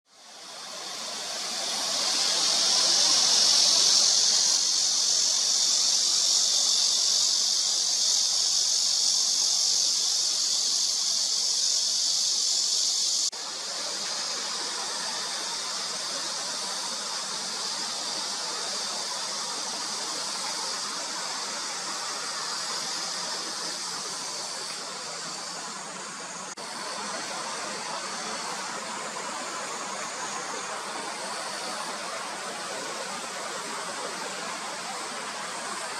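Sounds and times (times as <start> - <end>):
high-pitched hiss: 0.1 - 35.9.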